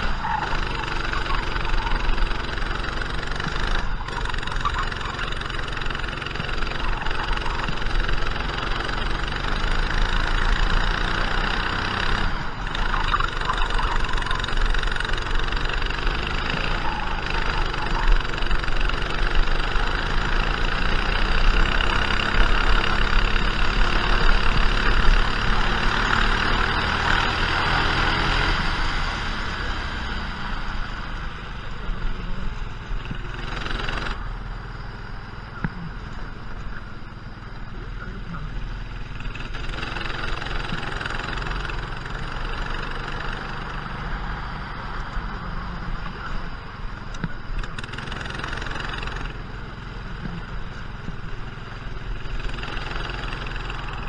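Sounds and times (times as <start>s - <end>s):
racing kart engine revving: 0.0s - 54.0s.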